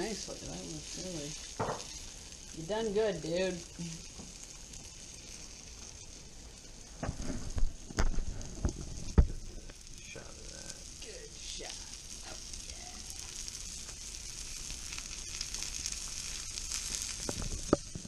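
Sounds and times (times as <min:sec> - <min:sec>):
fish fillets sizzling in pan: 0:00.0 - 0:18.0.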